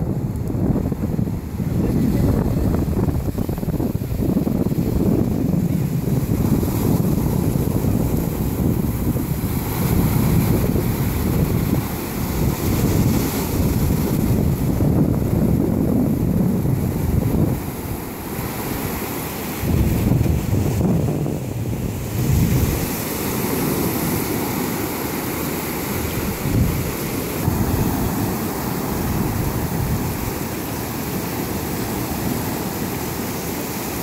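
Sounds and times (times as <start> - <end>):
ocean surf breaking: 0.0 - 34.0
wind rumbling on microphone: 0.0 - 34.0.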